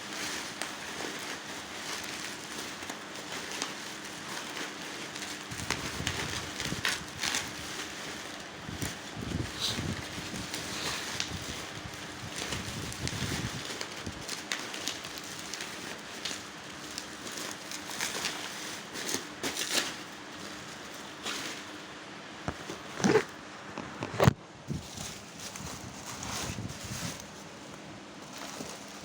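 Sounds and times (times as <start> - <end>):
plastic wrapping crinkling: 0.0 - 29.0.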